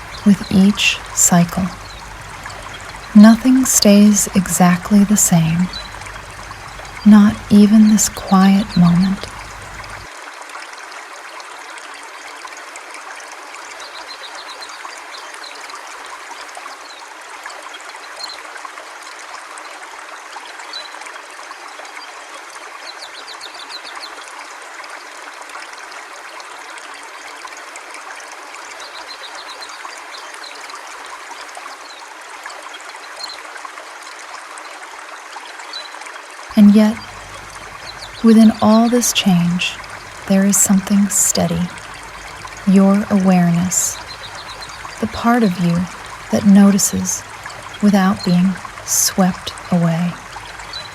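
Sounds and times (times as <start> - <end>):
river water flowing: 0.0 - 50.9.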